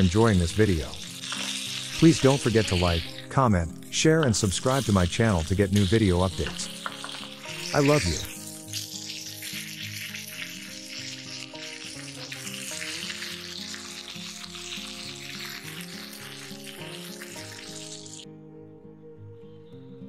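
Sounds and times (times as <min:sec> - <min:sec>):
chicken sizzling in oil: 0:00.0 - 0:18.2
background music: 0:00.0 - 0:20.0.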